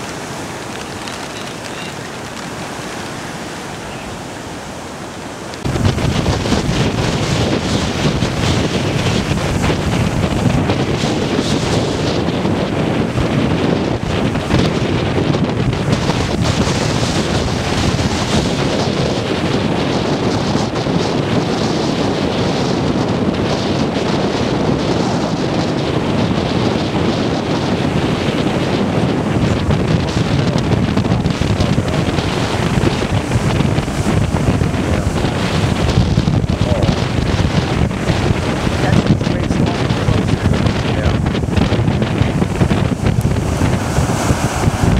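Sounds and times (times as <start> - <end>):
surf breaking on rocks: 0.0 - 44.9
wind buffeting microphone: 0.0 - 44.9.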